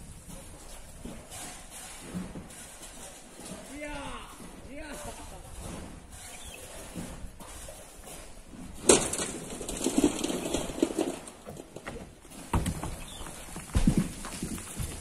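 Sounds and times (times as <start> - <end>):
rocks and earth falling: 0.0 - 15.0
rocks tumbling and knocking: 0.0 - 15.0.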